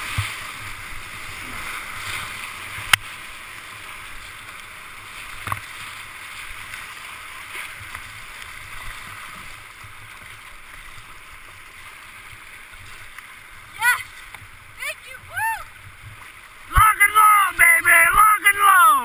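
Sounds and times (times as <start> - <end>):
whitewater rapids rushing: 0.0 - 19.0.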